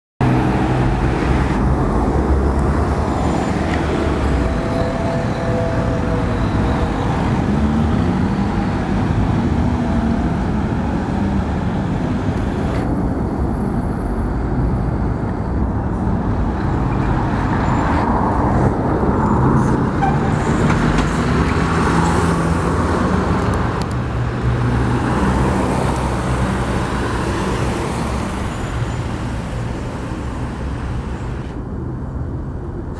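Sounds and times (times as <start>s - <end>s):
diesel truck engine rumbling: 0.2s - 32.9s
passing cars: 0.2s - 32.9s.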